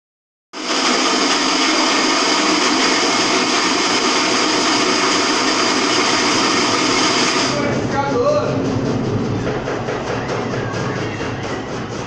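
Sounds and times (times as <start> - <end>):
washing machine spinning: 0.6 - 12.0.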